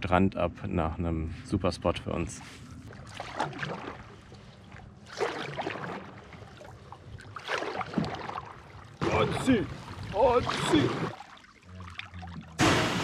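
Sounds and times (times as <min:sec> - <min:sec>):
water sloshing and splashing: 0:02.2 - 0:13.0.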